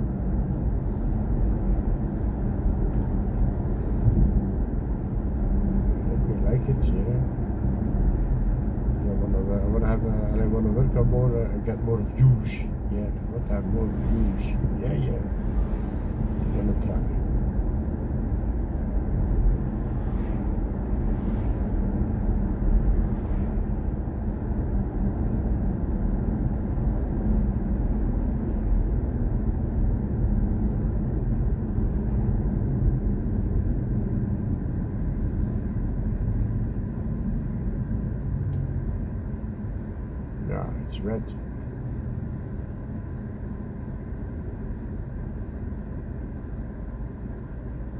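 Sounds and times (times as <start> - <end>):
road and tyre rumble: 0.0 - 47.9.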